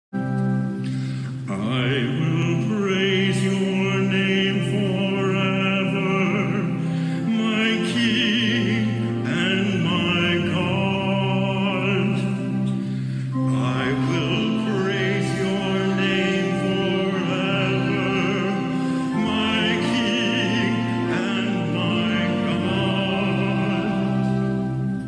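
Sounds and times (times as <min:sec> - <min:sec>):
sustained organ chords: 0:00.2 - 0:25.0
man singing with vibrato: 0:01.0 - 0:25.0.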